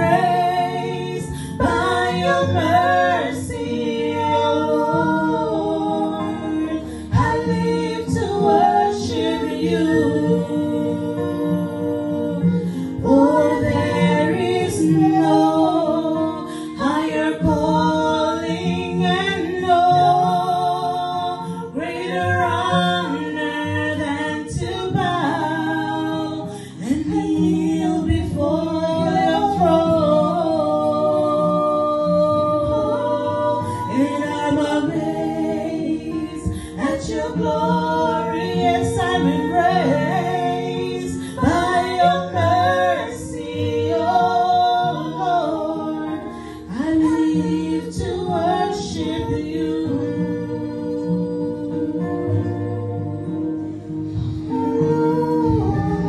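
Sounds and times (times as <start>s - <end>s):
women singing gospel song: 0.0s - 56.0s.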